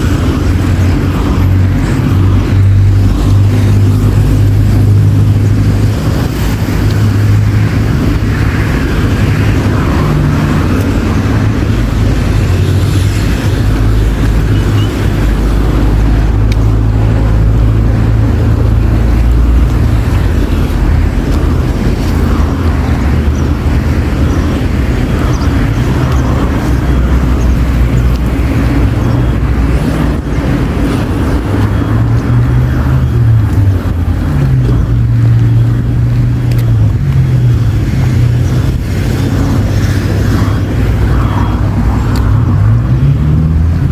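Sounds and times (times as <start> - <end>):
traffic engines droning: 0.0 - 43.9.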